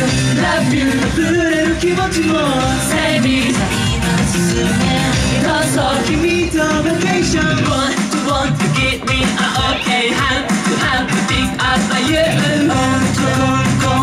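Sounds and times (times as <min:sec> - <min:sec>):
male group singing: 0:00.0 - 0:14.0
pop backing music: 0:00.0 - 0:14.0.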